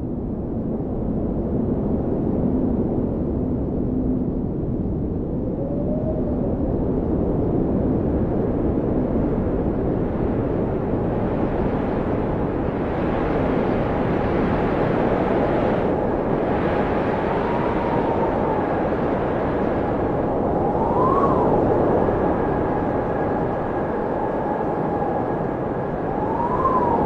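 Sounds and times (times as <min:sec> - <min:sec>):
blizzard wind howling: 0:00.0 - 0:27.0.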